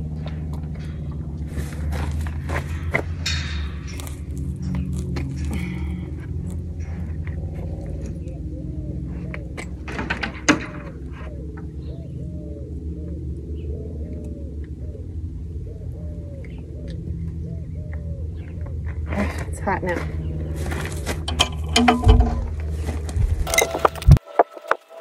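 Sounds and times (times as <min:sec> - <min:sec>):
steady low hum: 0:00.0 - 0:24.2.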